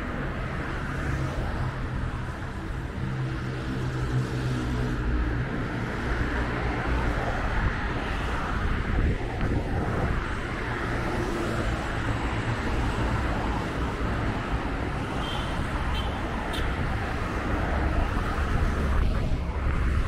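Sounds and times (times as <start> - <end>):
highway traffic: 0.0 - 20.0.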